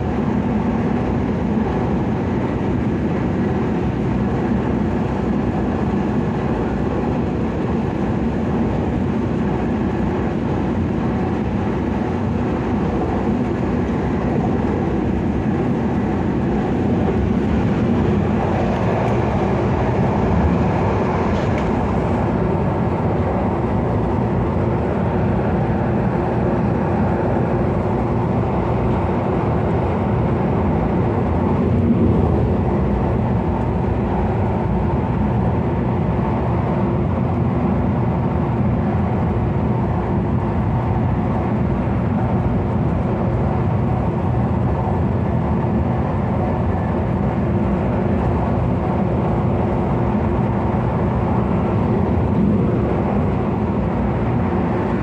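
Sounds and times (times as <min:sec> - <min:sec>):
train running noise: 0:00.0 - 0:55.0.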